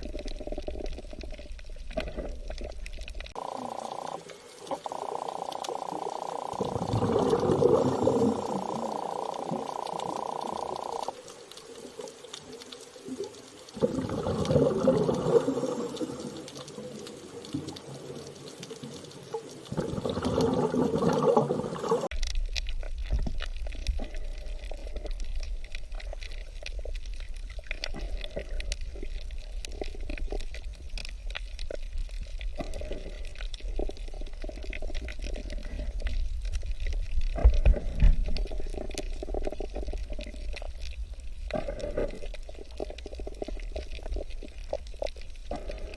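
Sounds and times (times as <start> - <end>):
underwater bubbling and sloshing: 0.0 - 45.9
underwater clicks: 0.0 - 45.9
underwater low rumble: 0.0 - 45.9.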